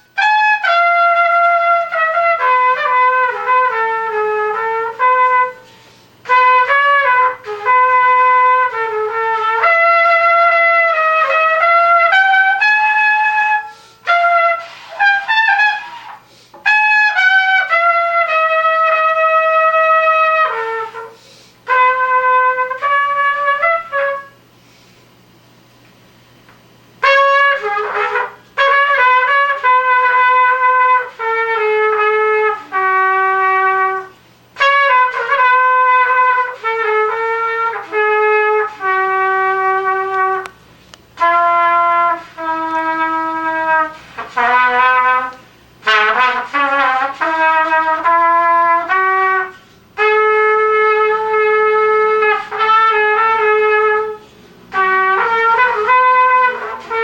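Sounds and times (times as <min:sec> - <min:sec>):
trumpet playing melody: 0:00.0 - 0:24.5, 0:26.8 - 0:57.0.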